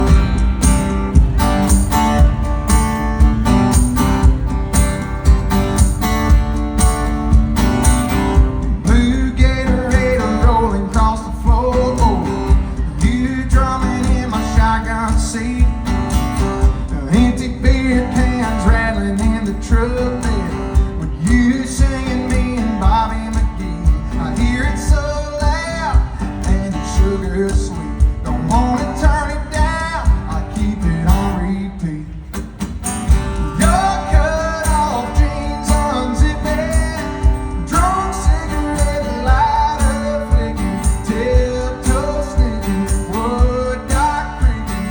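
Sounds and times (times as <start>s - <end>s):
strummed guitar: 0.0s - 44.9s.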